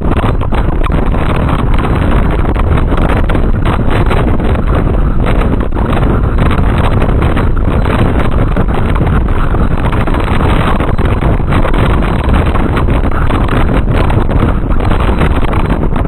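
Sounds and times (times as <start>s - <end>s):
moving train running noise: 0.0s - 16.0s
wind buffeting microphone: 0.0s - 16.0s.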